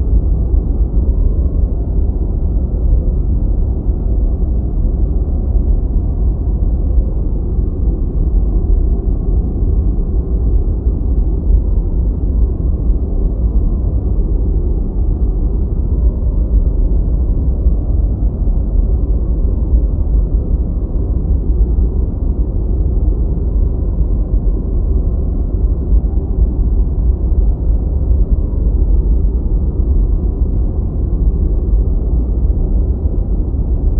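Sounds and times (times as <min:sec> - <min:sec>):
deep white noise: 0:00.0 - 0:33.9.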